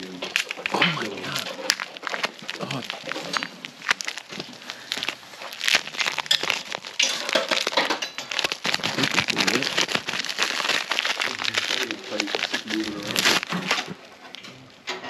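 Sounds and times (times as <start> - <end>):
packaging crinkling: 0.0 - 14.8.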